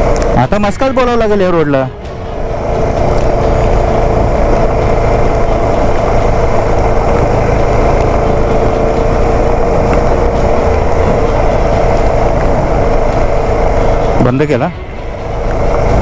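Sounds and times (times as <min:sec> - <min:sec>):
constant low rumble: 0:00.0 - 0:16.0
motorcycle engine running: 0:00.0 - 0:16.0.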